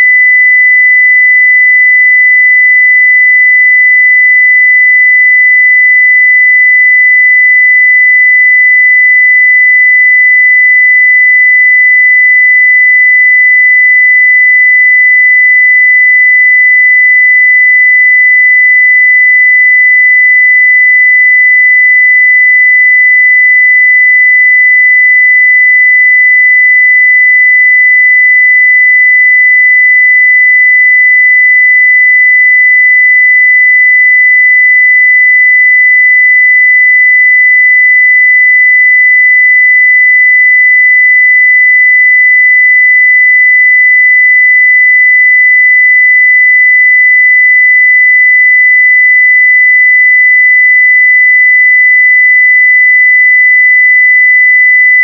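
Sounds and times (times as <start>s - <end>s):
sine wave test tone: 0.0s - 55.0s.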